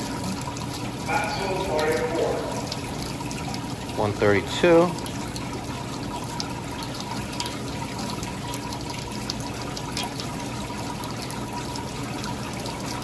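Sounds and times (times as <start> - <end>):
water running from faucet: 0.0 - 13.0.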